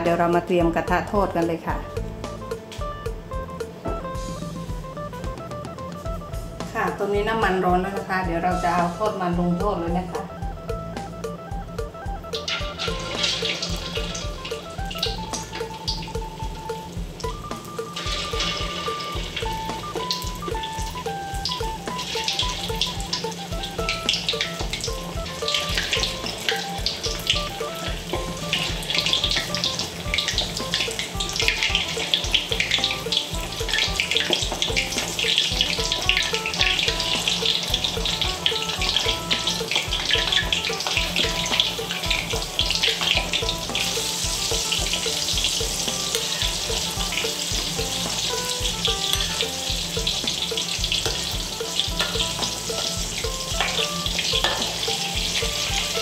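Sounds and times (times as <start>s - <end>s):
food deep-frying in hot oil: 4.2s - 56.0s.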